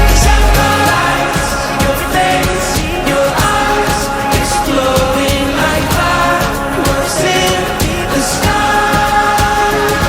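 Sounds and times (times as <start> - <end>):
heavy bass beat: 0.0 - 10.0
pop song with singing: 0.0 - 10.0.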